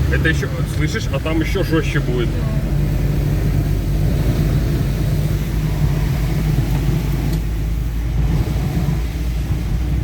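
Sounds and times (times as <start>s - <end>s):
car engine rumble: 0.0s - 10.0s
heavy rain: 0.0s - 10.0s
water washing against car: 0.0s - 10.0s.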